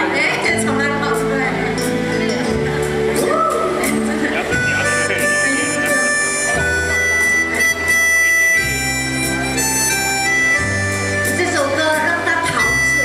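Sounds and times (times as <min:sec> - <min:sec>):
electronic keyboard music: 0:00.0 - 0:13.0.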